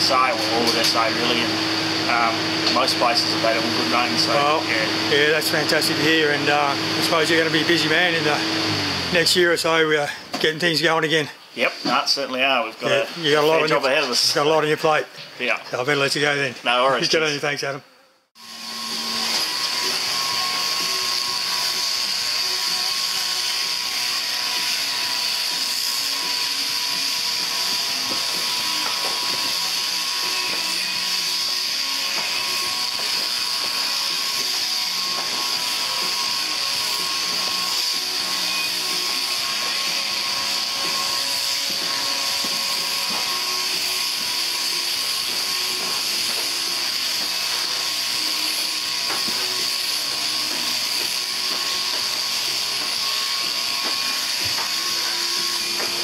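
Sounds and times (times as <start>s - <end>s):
electric shears hissing: 0.0s - 10.2s, 18.4s - 56.0s.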